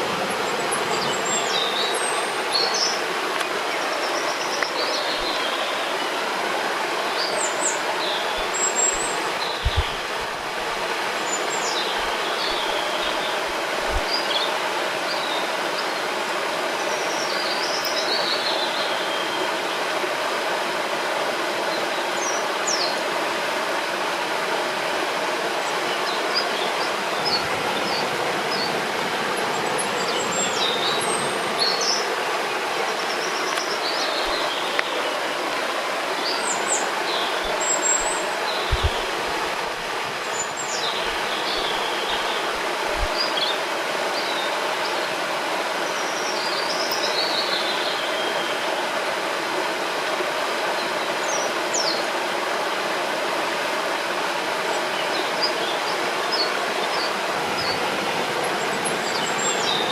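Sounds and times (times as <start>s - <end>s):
songbirds chirping and trilling: 0.0s - 21.0s, 25.5s - 49.1s, 53.6s - 59.9s
river rushing: 0.0s - 59.9s.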